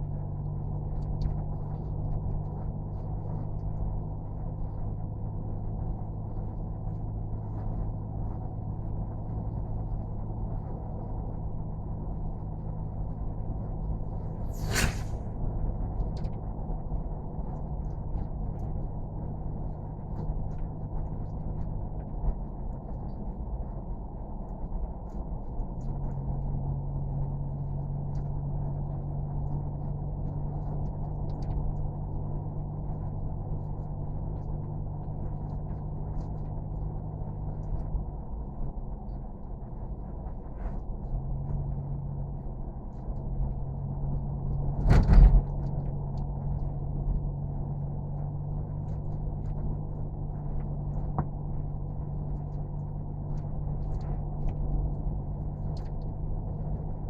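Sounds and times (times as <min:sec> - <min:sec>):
low mechanical drone: 0:00.0 - 0:57.0.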